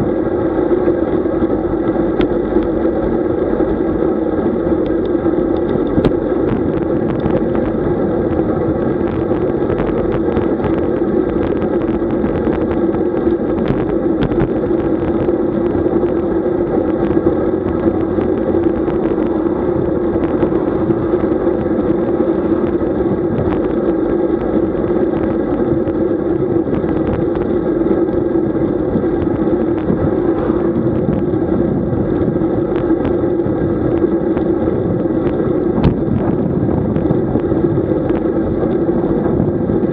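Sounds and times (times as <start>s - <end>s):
constant hum: 0.0s - 39.9s
wind and road rush: 0.0s - 39.9s.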